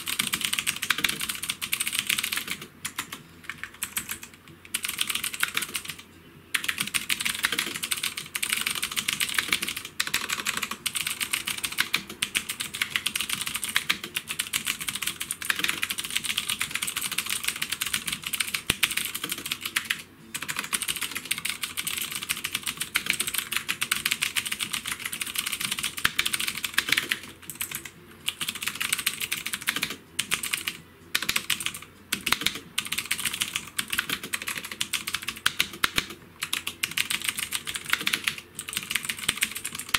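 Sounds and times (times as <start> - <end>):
mechanical keyboard typing: 0.0 - 6.0, 6.6 - 39.9.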